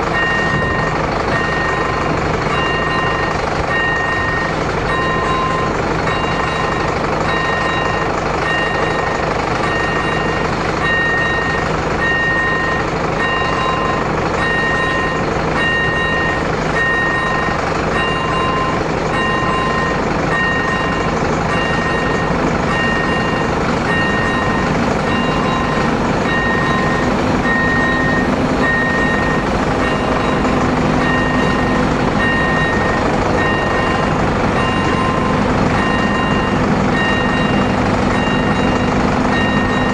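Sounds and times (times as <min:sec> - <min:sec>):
diesel locomotive drone: 0:00.0 - 0:39.9
level crossing warning bell: 0:00.0 - 0:39.9.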